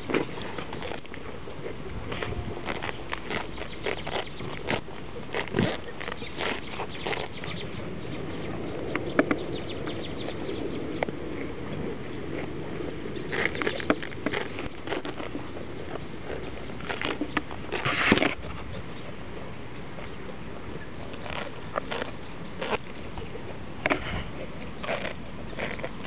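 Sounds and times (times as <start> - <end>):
goats tearing grass: 0.0 - 26.0.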